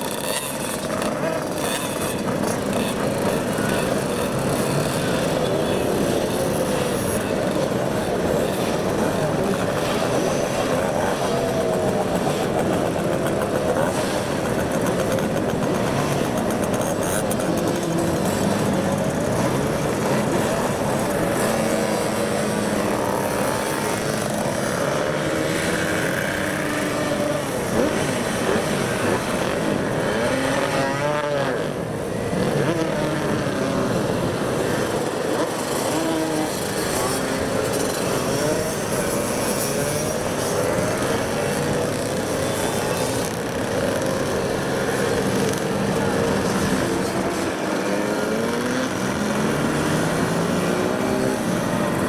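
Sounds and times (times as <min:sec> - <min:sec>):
moped engines revving: 0:00.0 - 0:52.0.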